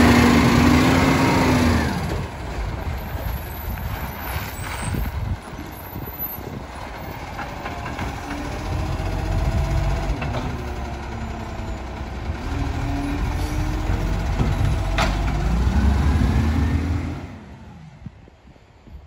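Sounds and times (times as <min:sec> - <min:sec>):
garbage truck diesel engine: 0:00.0 - 0:18.6.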